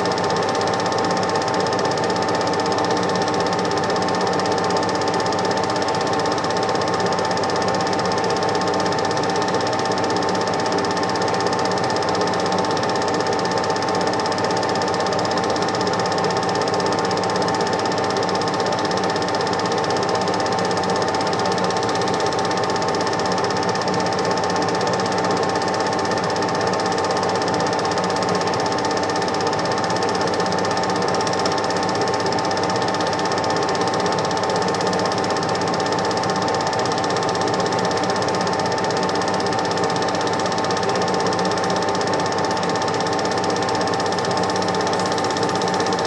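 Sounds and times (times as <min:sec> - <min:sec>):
film projector whirr: 0:00.0 - 0:46.0.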